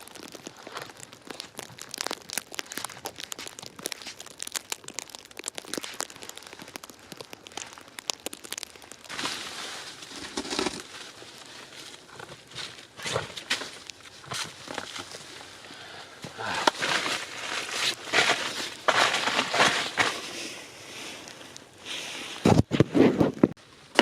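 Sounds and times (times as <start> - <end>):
plastic wrap crinkling: 0.0 - 15.6, 16.4 - 20.6.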